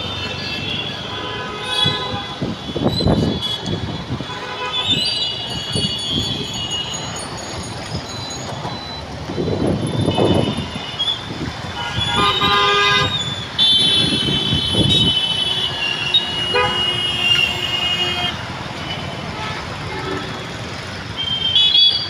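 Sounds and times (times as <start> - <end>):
vehicle horns honking: 0.0 - 7.0, 10.0 - 20.5, 21.2 - 22.0
engines rumbling: 0.0 - 22.0
tyres on wet road: 0.0 - 22.0.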